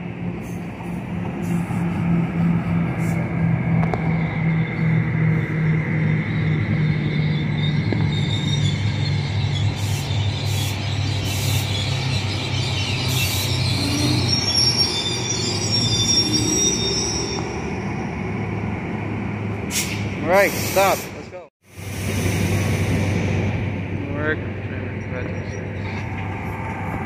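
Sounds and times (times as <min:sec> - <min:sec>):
train wheels and brakes squealing: 0:00.0 - 0:18.7, 0:19.6 - 0:23.6
locomotive diesel engine hum: 0:00.0 - 0:27.0.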